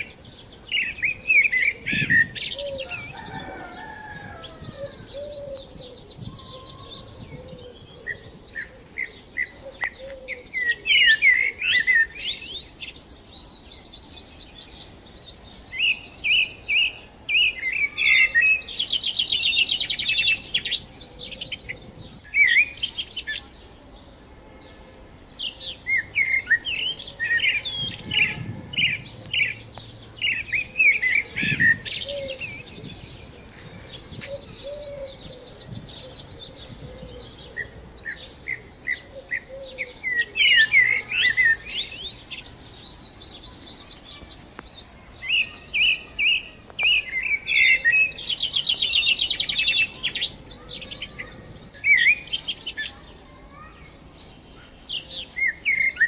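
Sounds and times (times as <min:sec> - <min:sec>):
bird trill: 0:00.0 - 0:23.6, 0:24.6 - 0:56.0
small birds chirping: 0:00.0 - 0:56.0.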